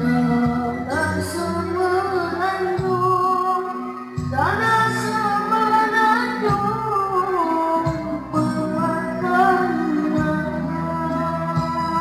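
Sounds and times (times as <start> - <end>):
backing music: 0.0 - 12.0
boy singing into a microphone: 0.0 - 12.0.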